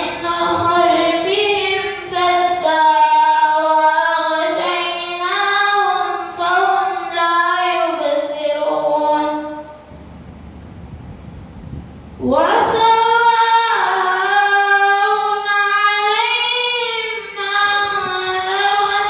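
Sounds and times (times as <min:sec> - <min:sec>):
boy chanting melodically: 0:00.0 - 0:09.9, 0:12.2 - 0:19.0.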